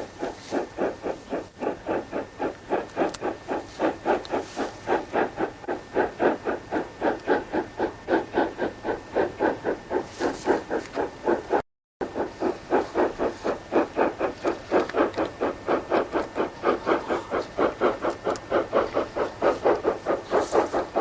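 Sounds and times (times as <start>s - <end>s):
steam engine chuffing: 0.0s - 21.0s.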